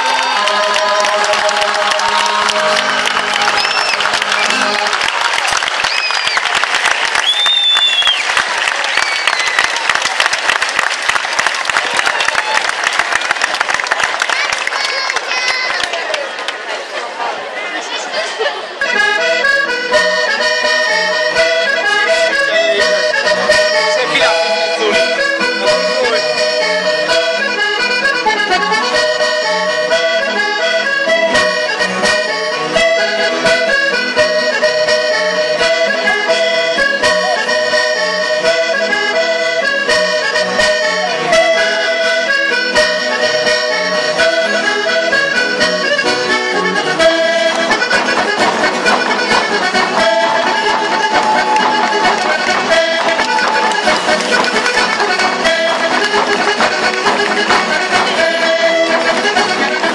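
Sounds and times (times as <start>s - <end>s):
accordion playing dance tune: 0.0s - 16.1s, 17.3s - 59.9s.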